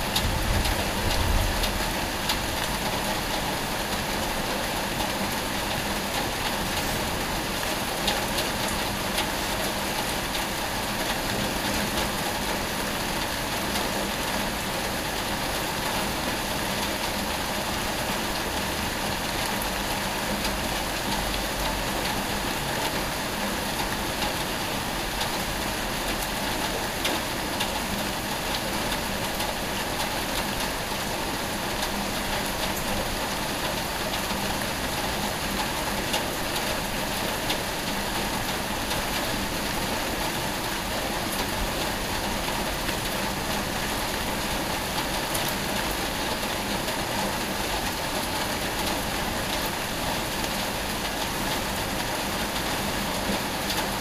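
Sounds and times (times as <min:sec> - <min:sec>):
steady rain on a street: 0:00.0 - 0:54.0.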